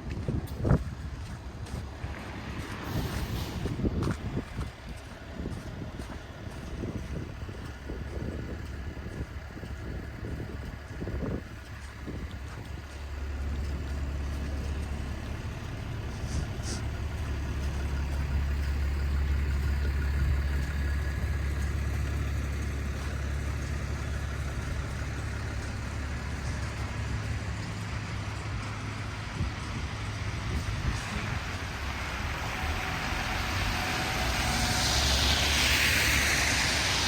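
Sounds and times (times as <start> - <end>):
engine idling: 0.1 - 37.0.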